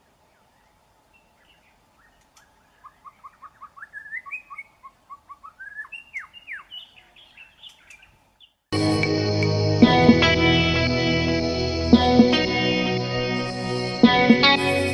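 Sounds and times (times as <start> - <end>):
bird chirping: 0.3 - 14.9.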